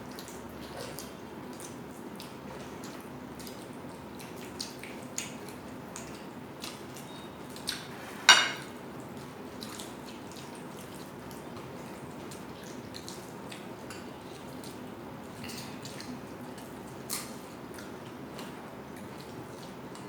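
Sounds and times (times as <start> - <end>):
chewing and handling food: 0.0 - 20.0.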